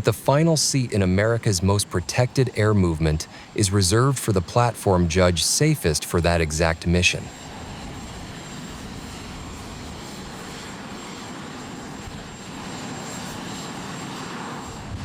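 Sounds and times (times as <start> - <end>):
aircraft engine noise: 0.0 - 15.0.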